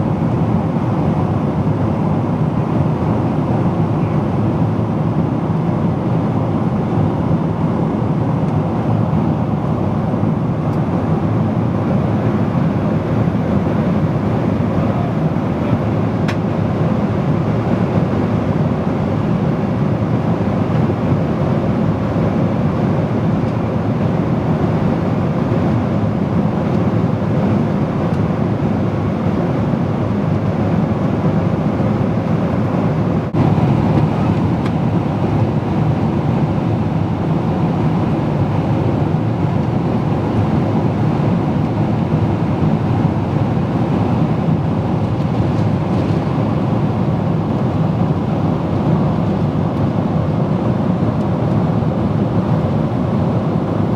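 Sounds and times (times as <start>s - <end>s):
jet engines in cabin: 0.0s - 53.9s.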